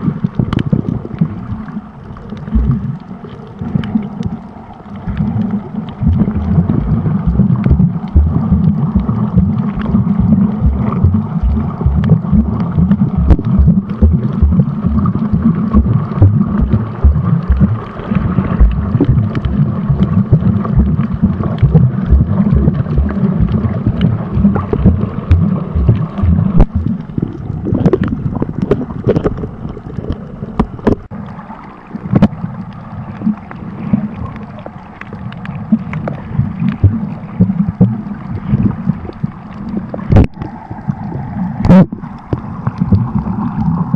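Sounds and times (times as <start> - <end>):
muffled underwater water rumble: 0.0 - 43.9.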